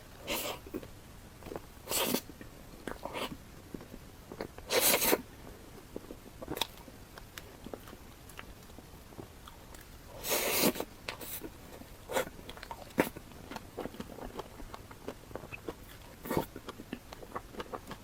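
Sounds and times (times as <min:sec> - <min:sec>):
close-up chewing: 0:00.1 - 0:18.0.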